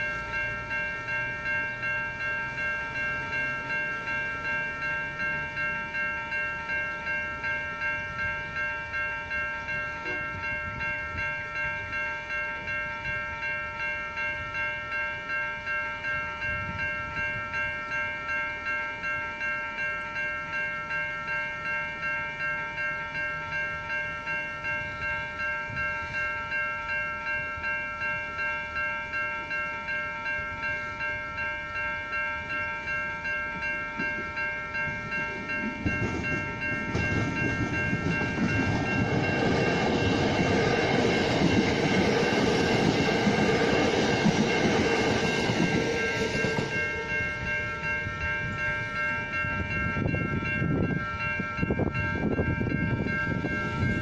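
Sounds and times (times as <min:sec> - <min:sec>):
electric train passing: 0:00.0 - 0:54.0
level crossing warning bells: 0:00.0 - 0:54.0.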